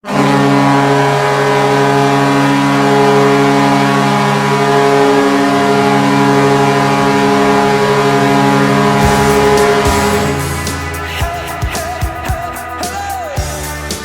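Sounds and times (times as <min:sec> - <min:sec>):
arena goal horn: 0:00.0 - 0:13.3.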